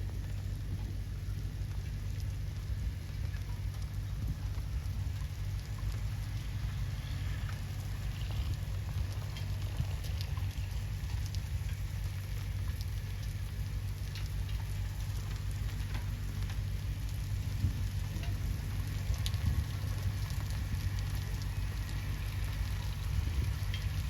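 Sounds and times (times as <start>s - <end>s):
constant low rumble: 0.0s - 24.0s
steady rain falling: 0.0s - 24.0s.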